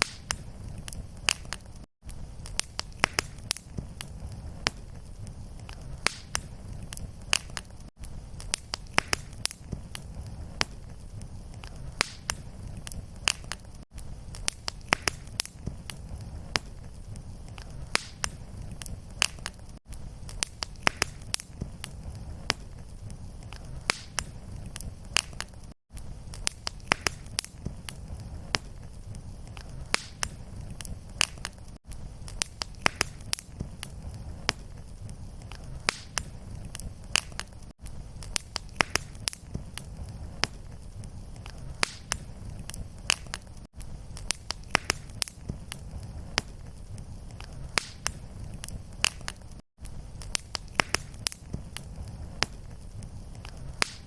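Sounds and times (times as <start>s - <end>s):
low rumble of flames: 0.0s - 54.0s
wood fire sharp pops: 0.0s - 54.0s.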